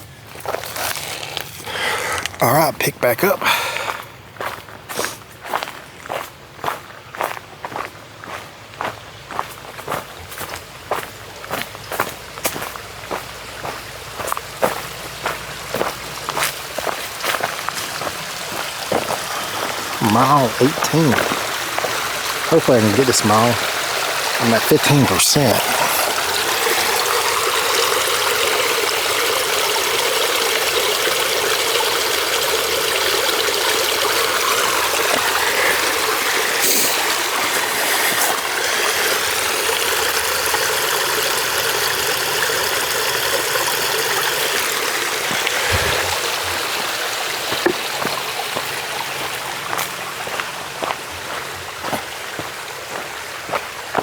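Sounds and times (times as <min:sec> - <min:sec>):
flowing water rushing: 0:08.8 - 0:54.0.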